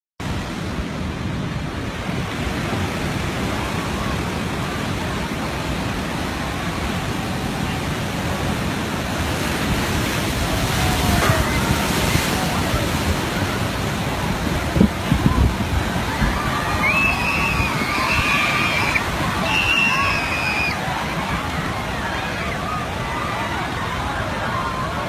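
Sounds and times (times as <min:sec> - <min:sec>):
ocean surf breaking: 0:00.2 - 0:25.0
wind on microphone: 0:00.2 - 0:25.0.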